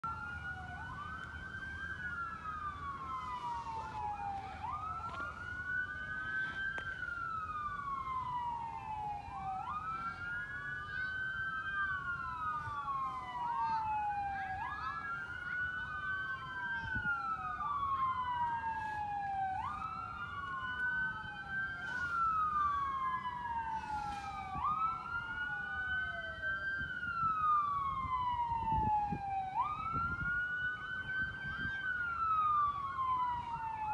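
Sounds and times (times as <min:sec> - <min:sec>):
fire truck sirens wailing: 0:00.0 - 0:33.9.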